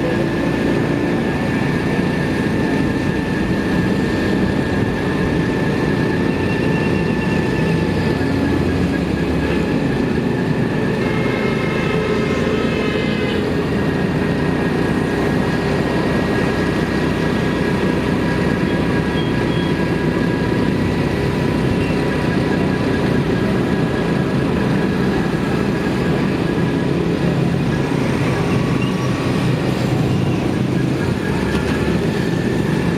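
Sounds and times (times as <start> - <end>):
road noise: 0.0 - 32.9.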